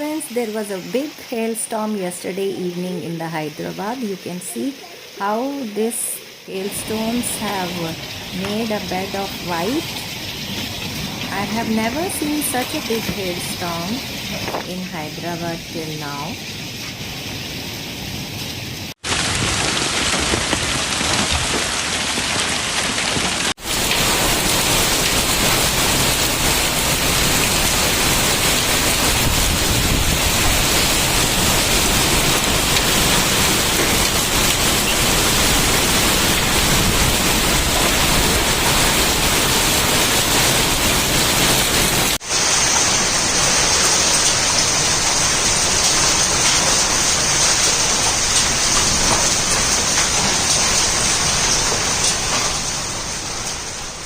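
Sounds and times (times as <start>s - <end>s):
heavy rain and hail hammering: 0.1s - 54.0s.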